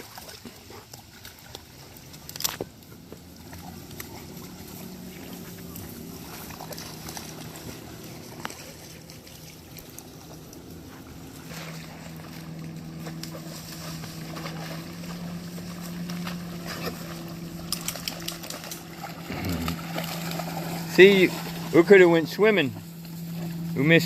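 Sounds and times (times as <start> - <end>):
motor humming: 1.8 - 24.0.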